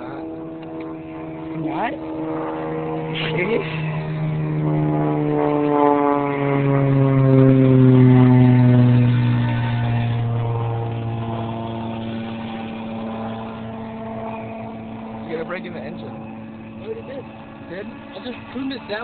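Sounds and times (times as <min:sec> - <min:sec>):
small nitro engine running: 0:00.0 - 0:19.0.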